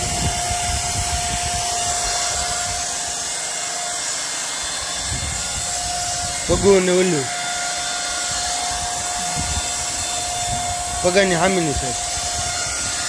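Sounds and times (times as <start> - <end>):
paint spray gun hissing: 0.0 - 13.0
thin motor whine: 0.0 - 13.0.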